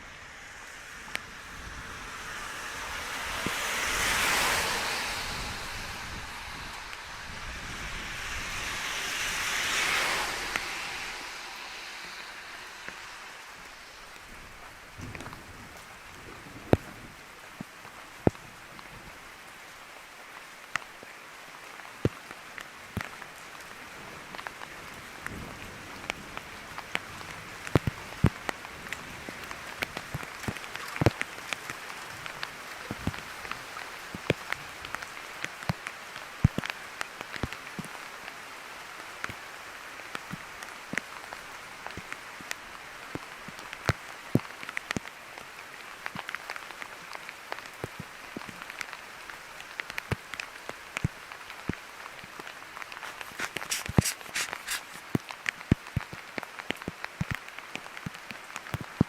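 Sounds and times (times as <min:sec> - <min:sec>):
steady rain hissing: 0:00.0 - 0:59.0
raindrops tapping close by: 0:00.3 - 0:59.0.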